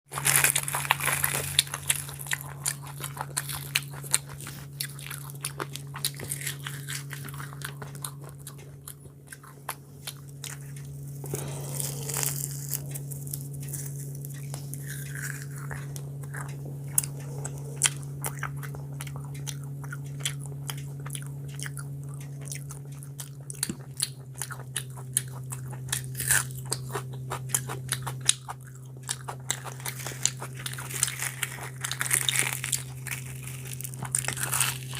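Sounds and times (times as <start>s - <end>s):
person biting and chewing: 0.1s - 34.9s
steady low hum: 0.1s - 34.9s.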